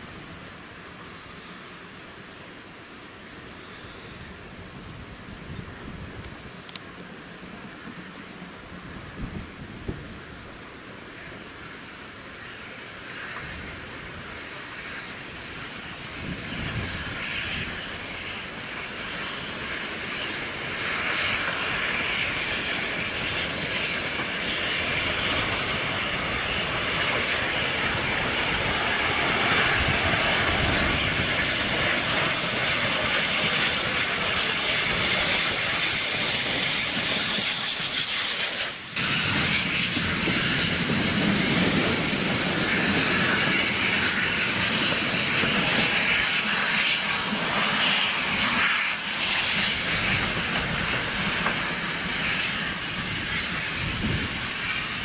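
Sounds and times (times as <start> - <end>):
steam locomotive: 0.0 - 55.0
hissing steam: 7.2 - 55.0.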